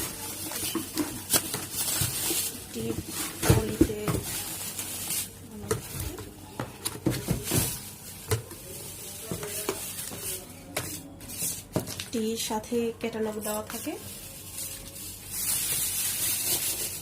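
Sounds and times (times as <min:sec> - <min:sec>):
plastic and paper crinkling: 0:00.0 - 0:17.0.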